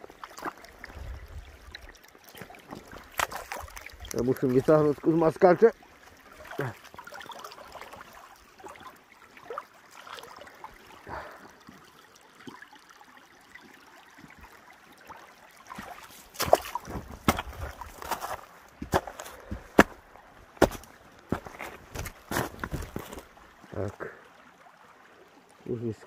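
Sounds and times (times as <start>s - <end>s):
faint trickling water: 0.0s - 26.0s.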